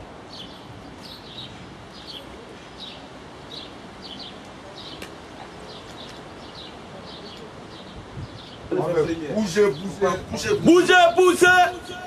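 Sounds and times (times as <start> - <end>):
outdoor background hiss: 0.0 - 12.0
songbird chirping: 0.2 - 10.1.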